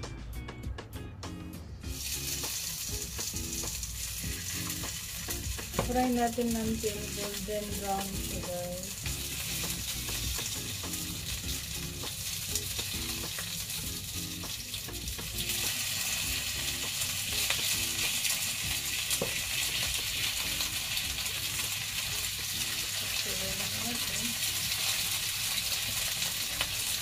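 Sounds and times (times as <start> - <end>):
meat sizzling in hot oil: 1.8 - 27.0.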